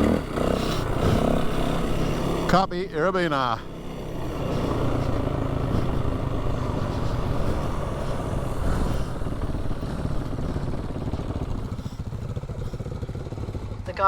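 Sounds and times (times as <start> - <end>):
vehicle engine running under load: 0.0 - 14.0
vehicle rattle: 0.0 - 14.0.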